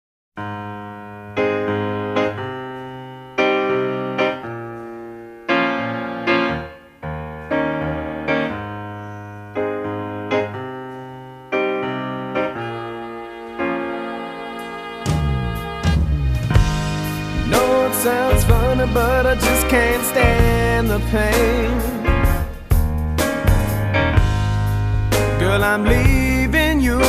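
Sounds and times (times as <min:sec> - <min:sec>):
slow piano chords: 0:00.4 - 0:27.0.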